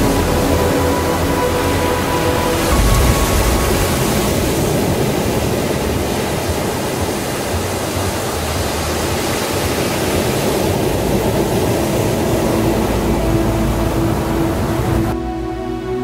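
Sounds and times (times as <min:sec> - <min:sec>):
waves breaking on beach: 0:00.0 - 0:15.1.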